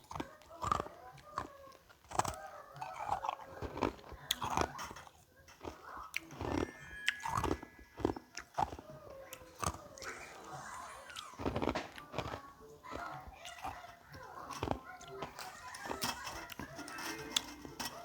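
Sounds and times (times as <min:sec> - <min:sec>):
ice crunching between teeth: 0:00.0 - 0:18.0.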